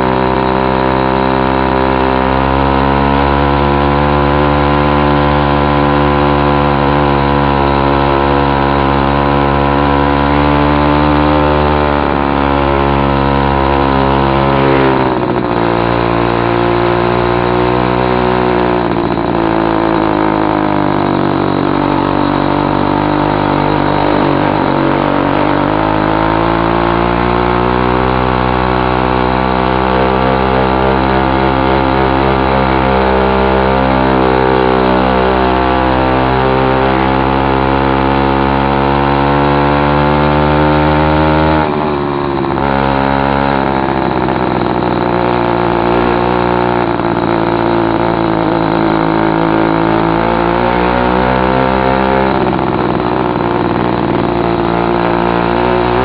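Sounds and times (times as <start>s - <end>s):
loud two-stroke engine: 0.0s - 56.0s.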